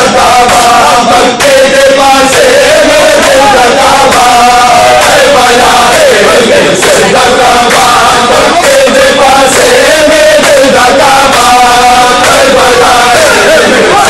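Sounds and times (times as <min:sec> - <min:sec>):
men chanting in unison: 0:00.0 - 0:14.0
rhythmic chest-beating: 0:00.0 - 0:14.0.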